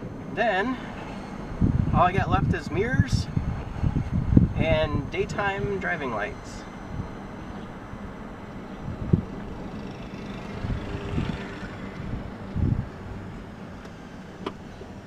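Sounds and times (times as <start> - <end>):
electric vehicle drive hum: 0.0 - 15.0.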